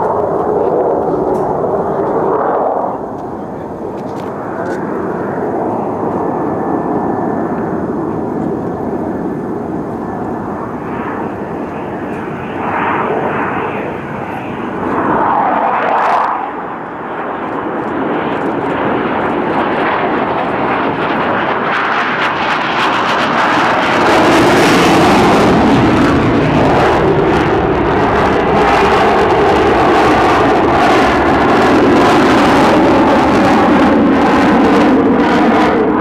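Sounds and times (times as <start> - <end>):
jet engine rushing noise: 0.0 - 36.0.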